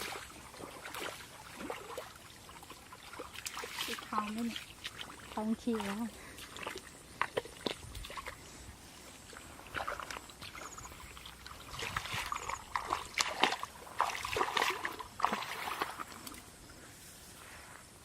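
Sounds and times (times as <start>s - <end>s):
water splashing and sloshing: 0.0s - 17.4s.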